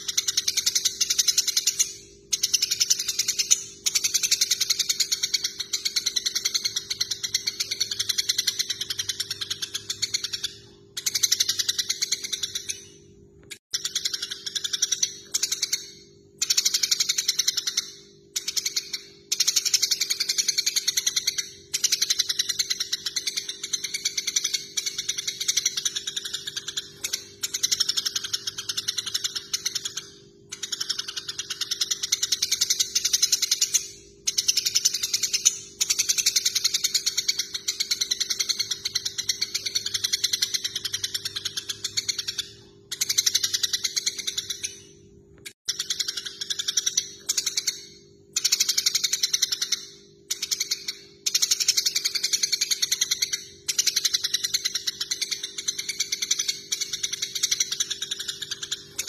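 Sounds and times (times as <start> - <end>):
sparrows chirping: 0.0 - 17.8, 18.4 - 45.1, 45.7 - 59.0.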